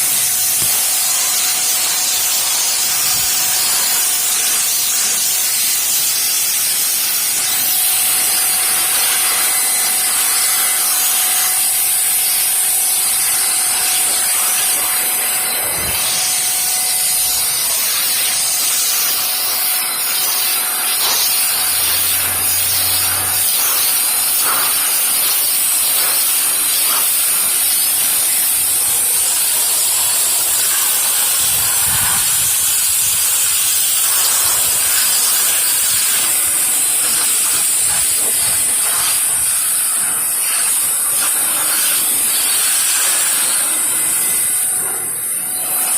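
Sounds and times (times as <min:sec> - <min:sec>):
pressure washer spraying: 0:00.0 - 0:45.9.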